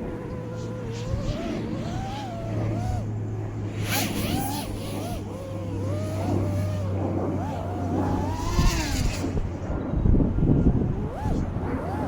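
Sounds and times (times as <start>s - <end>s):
drone motors whining: 0.0s - 12.0s
wind noise rush: 0.0s - 12.0s.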